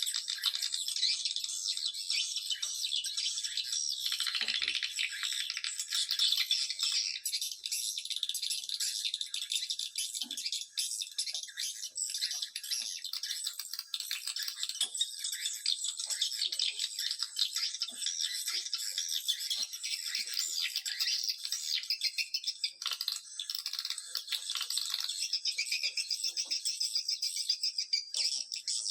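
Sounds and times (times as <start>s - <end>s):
swiftlets twittering and clicking: 0.0s - 28.9s.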